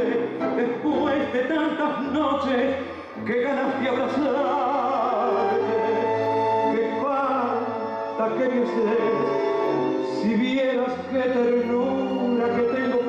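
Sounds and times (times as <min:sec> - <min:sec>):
instrumental tango accompaniment: 0:00.0 - 0:13.0
person singing with vibrato: 0:00.0 - 0:13.0.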